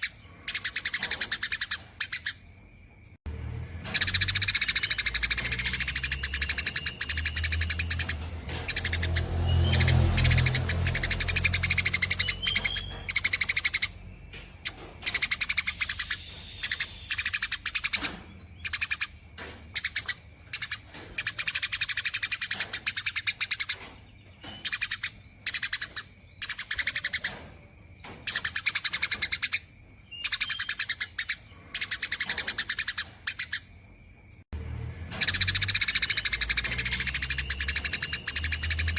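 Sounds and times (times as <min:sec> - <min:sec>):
sparrow chattering trills: 0:00.0 - 0:03.2, 0:03.8 - 0:34.4, 0:35.1 - 0:38.9.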